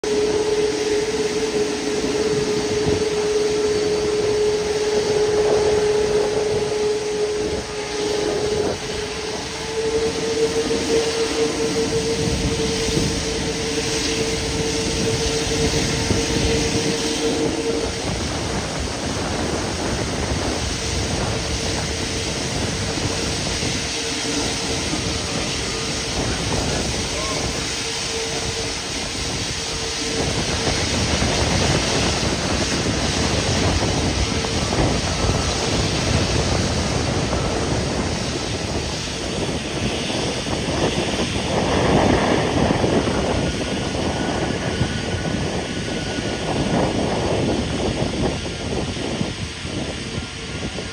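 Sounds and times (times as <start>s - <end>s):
faint jet engine whine: 0.0s - 50.9s
jet engines rushing: 0.0s - 50.9s.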